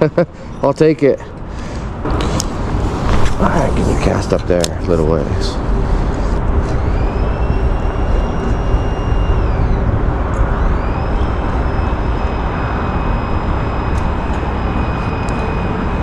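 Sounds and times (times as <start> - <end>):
thin gliding whine: 0.0 - 16.0
wind: 0.0 - 16.0.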